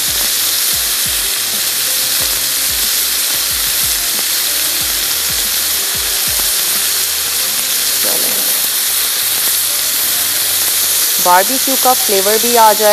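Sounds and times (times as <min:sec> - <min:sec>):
chicken sizzling in a grill pan: 0:00.0 - 0:12.9.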